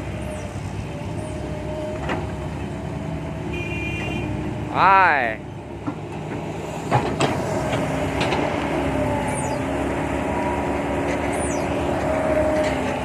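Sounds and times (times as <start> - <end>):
excavator diesel drone: 0.0 - 13.0.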